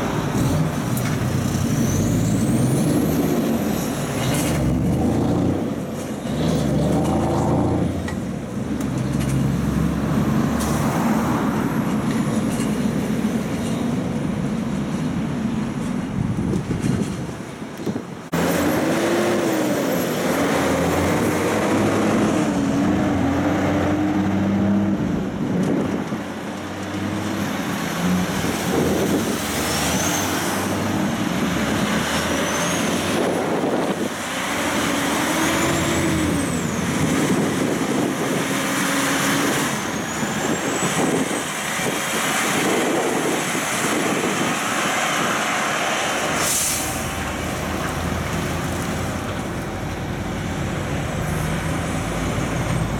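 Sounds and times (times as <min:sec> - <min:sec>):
heavy trucks driving past: 0:00.0 - 0:17.6, 0:18.3 - 0:52.9.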